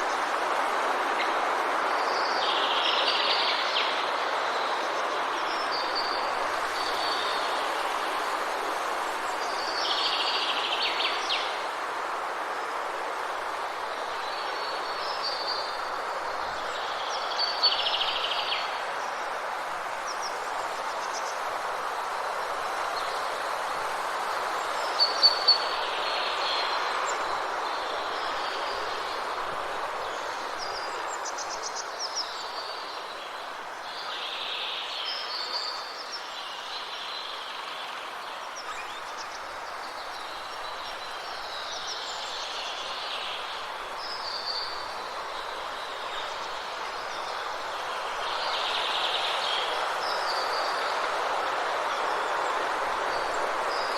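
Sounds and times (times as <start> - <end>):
rain in the trees: 0.0 - 53.9.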